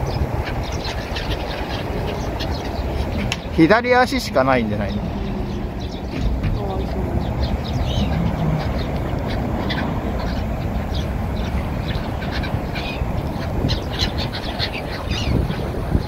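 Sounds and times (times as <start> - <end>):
gulls calling: 0.0 - 16.0
steady low rumble: 0.0 - 16.0.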